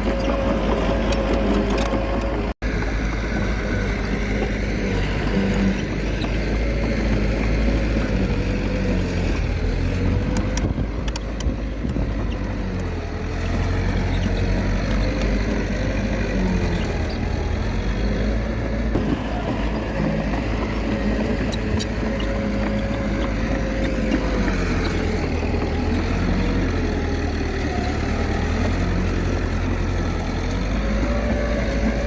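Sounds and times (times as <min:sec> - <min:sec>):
bulldozer diesel engine under load: 0:00.0 - 0:32.0.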